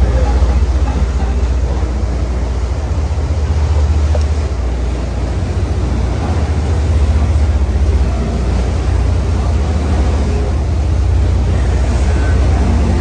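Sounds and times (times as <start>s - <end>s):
boat engine rumble: 0.0s - 13.0s
rushing water: 0.0s - 13.0s
wind: 0.0s - 13.0s.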